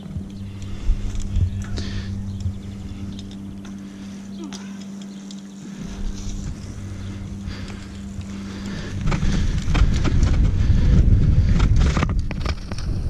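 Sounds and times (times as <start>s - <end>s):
wind buffeting microphone: 0.0s - 3.9s, 5.6s - 13.0s
low rumble: 0.0s - 13.0s.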